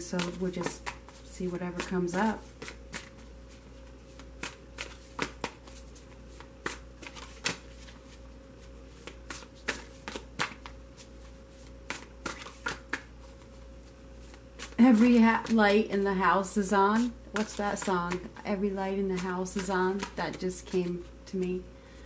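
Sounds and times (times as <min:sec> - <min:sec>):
cards being shuffled: 0:00.0 - 0:15.9, 0:17.0 - 0:21.1.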